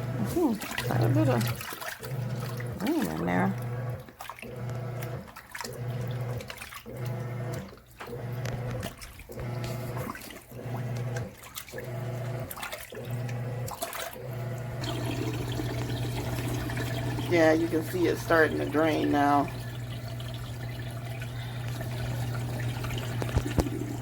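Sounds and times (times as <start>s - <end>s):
drain pump humming: 0.0s - 24.0s
washing machine motor running: 0.0s - 24.0s
water sloshing: 0.0s - 24.0s.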